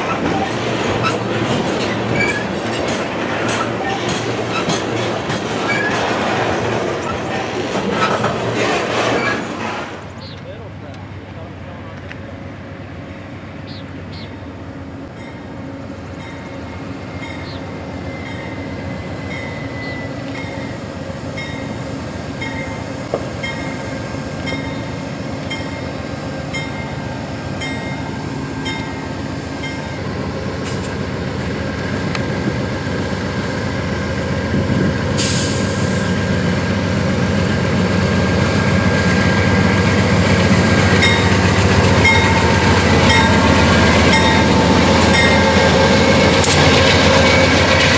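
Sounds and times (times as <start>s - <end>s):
rail clicks: 0.0s - 12.4s, 15.0s - 47.9s
train rumbling on rails: 0.0s - 47.9s.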